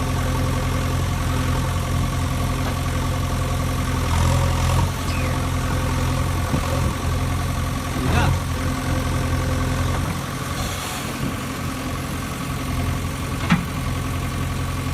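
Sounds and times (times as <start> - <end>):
engine idling: 0.0 - 14.9.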